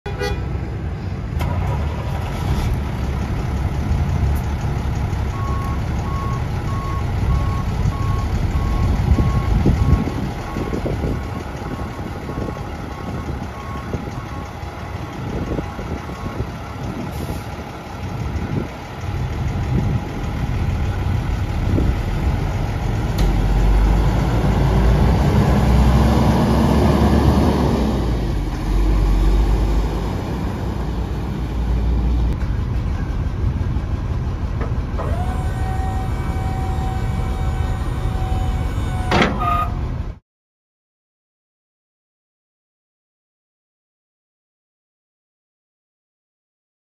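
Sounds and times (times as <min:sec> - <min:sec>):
diesel truck engine running: 0:00.1 - 0:40.2.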